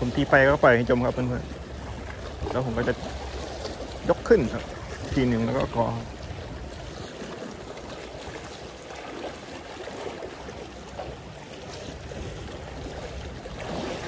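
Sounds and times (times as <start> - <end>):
small waves lapping against rocks: 0.0 - 14.0.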